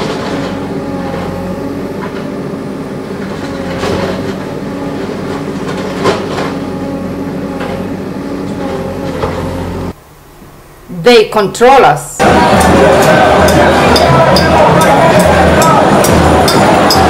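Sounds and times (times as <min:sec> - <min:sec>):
diesel engine running: 0:00.0 - 0:10.0, 0:12.2 - 0:17.0.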